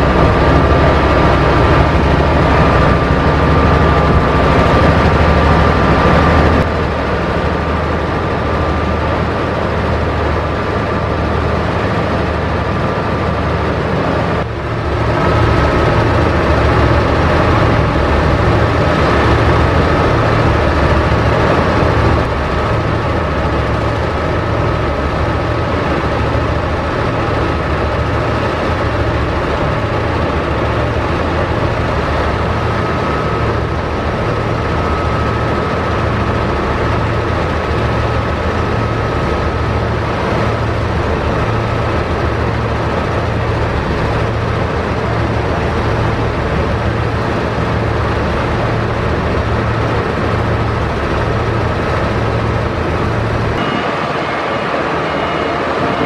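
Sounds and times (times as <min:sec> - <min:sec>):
diesel machinery droning: 0:00.0 - 0:56.0
high whine: 0:00.0 - 0:56.0.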